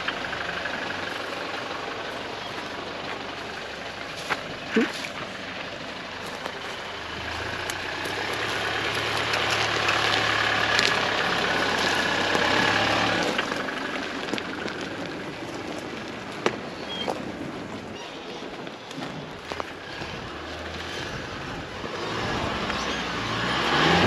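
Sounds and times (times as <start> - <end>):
truck engine at low speed: 0.0 - 24.0
tyres on dirt: 0.0 - 24.0.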